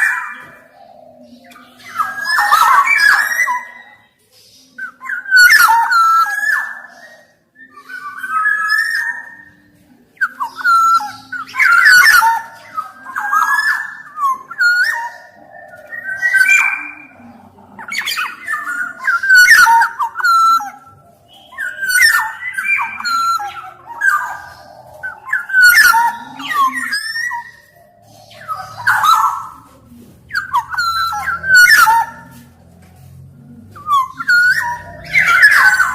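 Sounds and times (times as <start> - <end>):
bird singing whistled notes: 1.2 - 32.4, 33.7 - 35.9.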